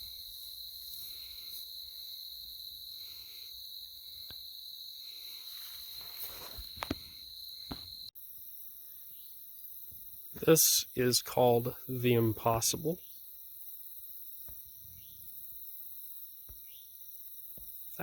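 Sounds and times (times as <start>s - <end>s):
insect chorus chirring: 0.0s - 18.0s.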